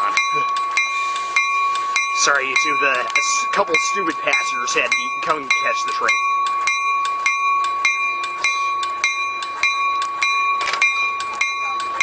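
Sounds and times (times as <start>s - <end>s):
railway warning bell ringing: 0.0s - 12.0s.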